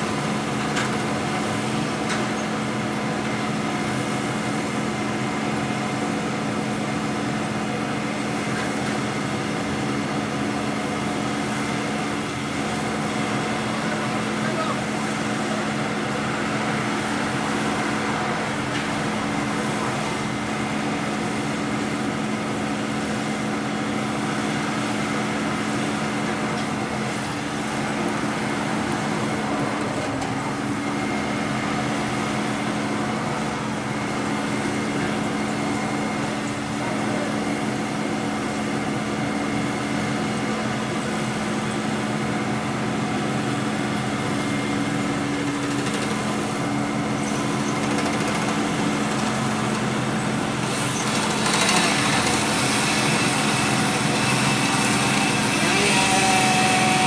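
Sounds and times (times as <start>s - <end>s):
street traffic: 0.0s - 57.0s
truck engine droning: 0.0s - 57.0s.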